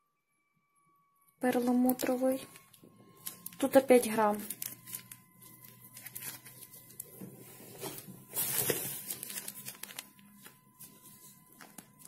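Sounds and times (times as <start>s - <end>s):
plastic bags rustling: 1.6s - 12.0s.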